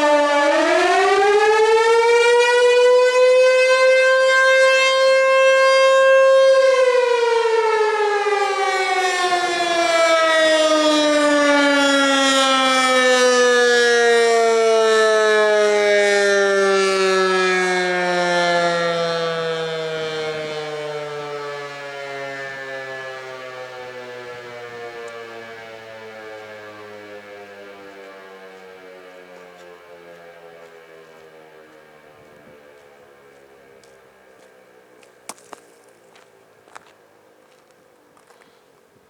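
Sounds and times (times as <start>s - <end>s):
warning siren wailing: 0.0s - 37.6s.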